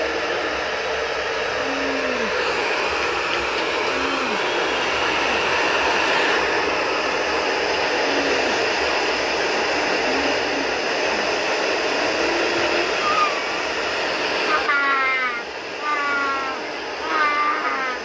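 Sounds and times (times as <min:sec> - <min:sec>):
cooling fan running: 0:00.0 - 0:18.0.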